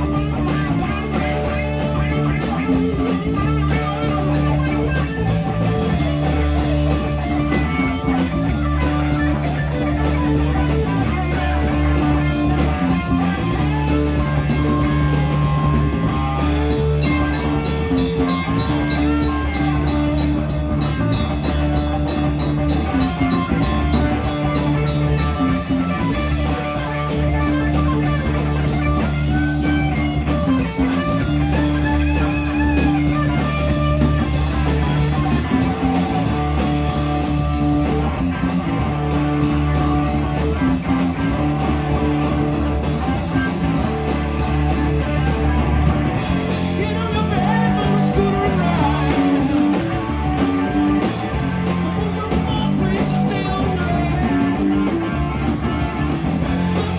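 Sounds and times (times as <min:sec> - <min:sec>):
bass: 0:00.0 - 0:56.9
drum kit: 0:00.0 - 0:56.9
electric guitar: 0:00.0 - 0:56.9.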